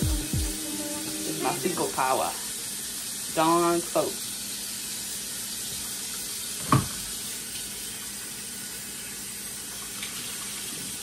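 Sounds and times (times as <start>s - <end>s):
faucet running into sink: 1.2s - 11.0s.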